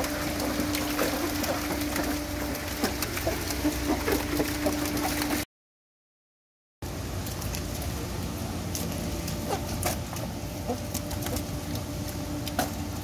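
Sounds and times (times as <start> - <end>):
steady low hum: 0.0 - 5.4, 6.8 - 13.0.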